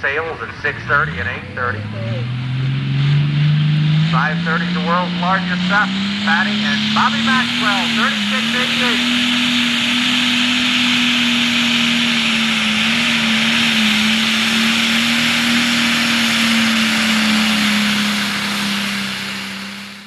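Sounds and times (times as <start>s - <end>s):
tractor engine at full throttle: 0.0s - 20.0s
hissing roar: 0.2s - 20.0s.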